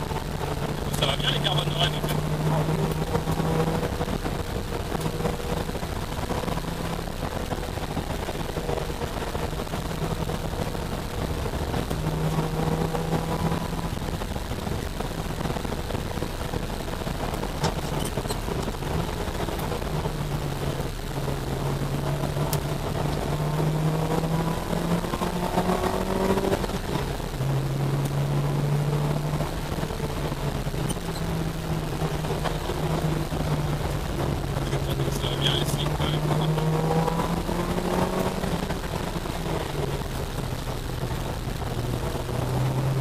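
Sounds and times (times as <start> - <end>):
car engine revving: 0.0 - 43.0
road and wind rush: 0.0 - 43.0.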